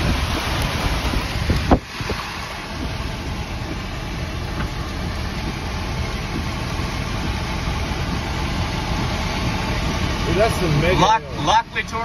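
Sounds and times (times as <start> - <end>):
wind and rain buffeting vehicle: 0.0 - 12.0.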